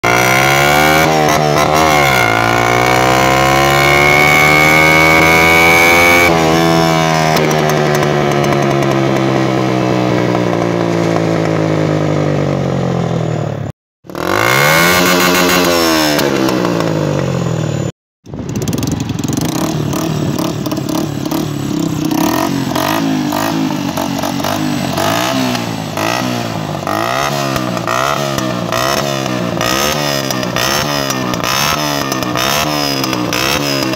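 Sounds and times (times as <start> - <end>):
motorcycle engine revving: 0.0 - 33.9
rough crackly exhaust: 0.0 - 33.9.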